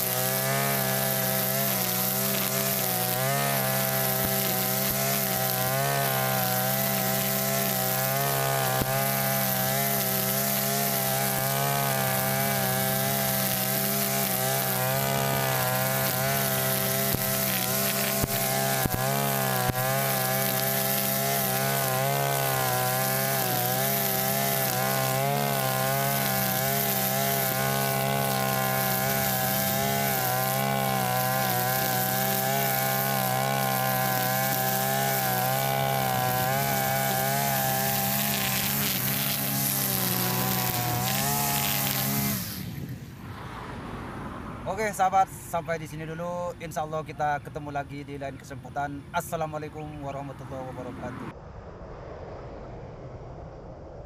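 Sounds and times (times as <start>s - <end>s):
brush cutter cutting grass: 0.0s - 43.3s, 44.7s - 51.2s.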